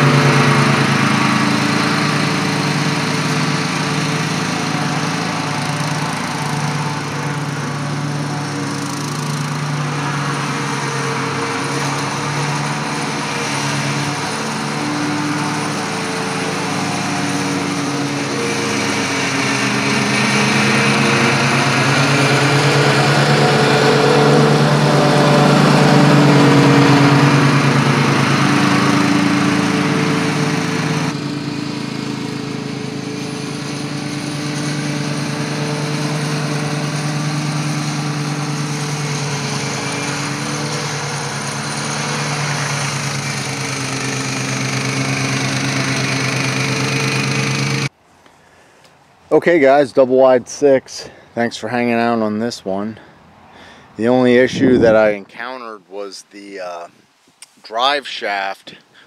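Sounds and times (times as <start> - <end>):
lawn mower engine running: 0.0 - 48.0, 53.6 - 55.1.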